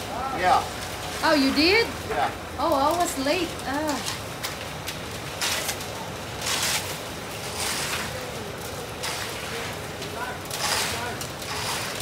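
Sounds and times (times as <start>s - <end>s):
concrete mixer truck rumble: 0.0s - 12.0s
rake scraping wet concrete: 0.0s - 12.0s.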